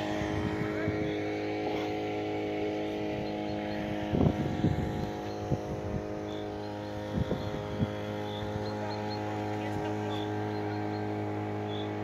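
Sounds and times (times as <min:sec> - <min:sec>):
string trimmer engine running: 0:00.0 - 0:12.0.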